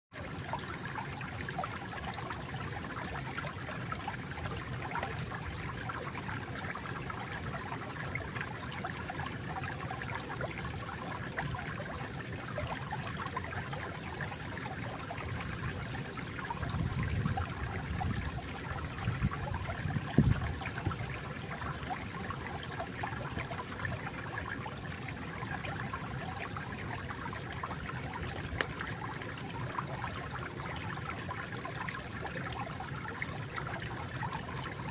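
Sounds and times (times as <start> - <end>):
stream water babbling: 0.1 - 34.9.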